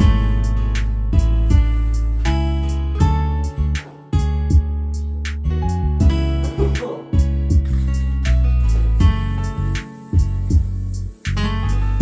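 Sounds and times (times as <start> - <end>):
music with strummed guitar: 0.0 - 10.6, 11.2 - 12.0.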